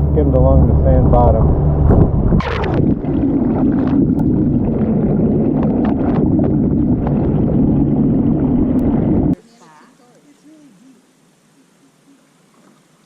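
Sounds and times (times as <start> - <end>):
watercraft engine humming: 0.0 - 13.0.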